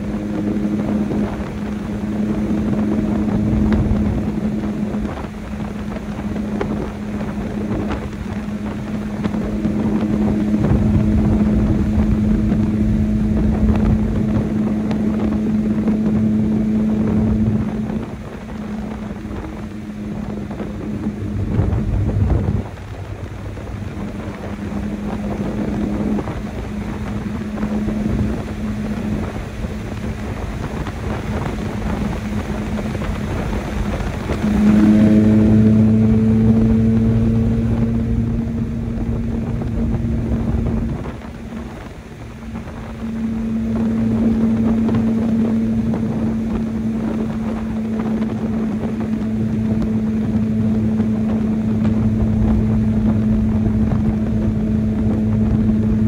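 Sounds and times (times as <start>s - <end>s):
pickup engine running: 0.0s - 56.0s
wind and road noise: 0.0s - 56.0s.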